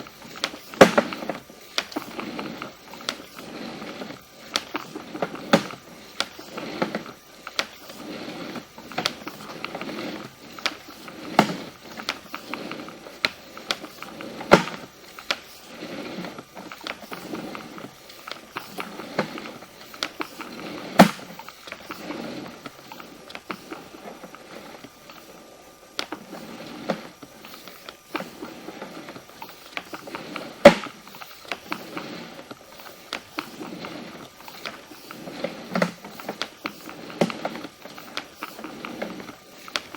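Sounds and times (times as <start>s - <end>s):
cable scraping: 0.0s - 39.9s.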